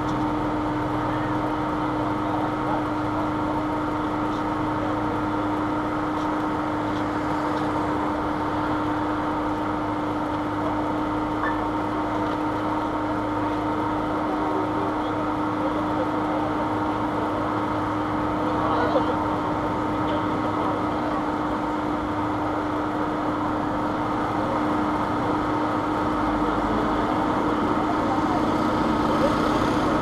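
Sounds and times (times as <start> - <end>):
low noisy drone: 0.0 - 30.0.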